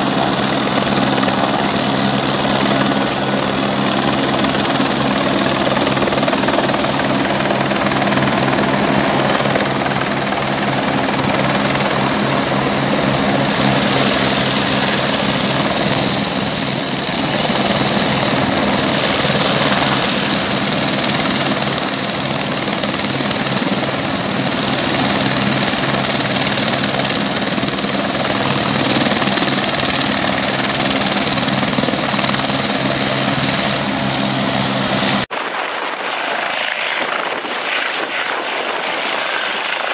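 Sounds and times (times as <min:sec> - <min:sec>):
helicopter turbine and rotors: 0:00.0 - 0:39.9.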